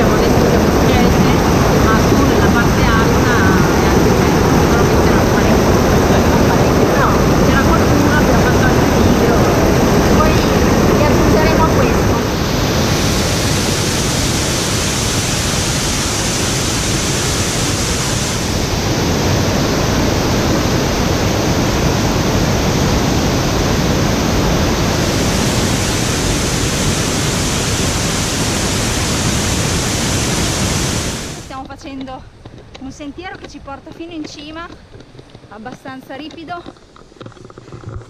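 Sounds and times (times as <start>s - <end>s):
waterfall rushing: 0.0s - 31.5s.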